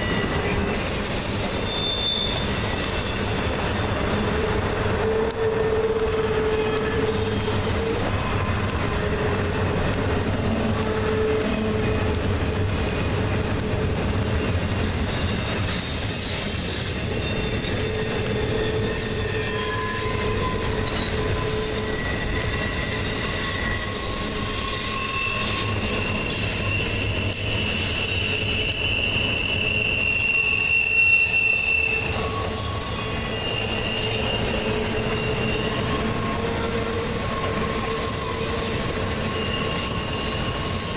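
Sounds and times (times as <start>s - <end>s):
train wheels rumbling on rail: 0.0s - 40.9s
wheel flanges squealing: 0.0s - 40.9s.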